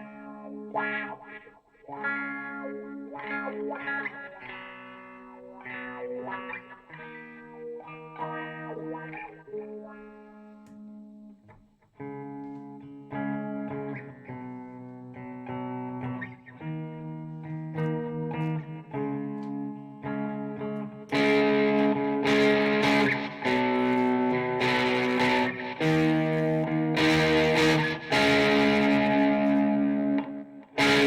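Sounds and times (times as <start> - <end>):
electric guitar chords ringing: 0.0 - 31.0.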